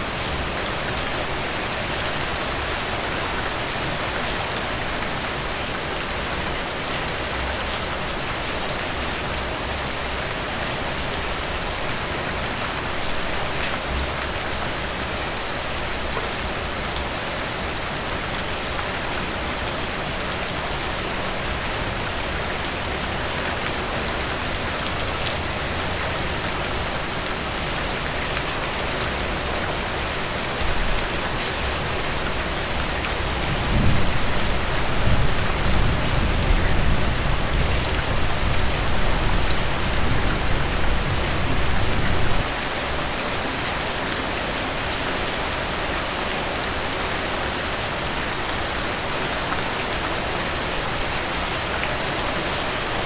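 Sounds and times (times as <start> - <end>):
heavy rain on hard surface: 0.0 - 53.0.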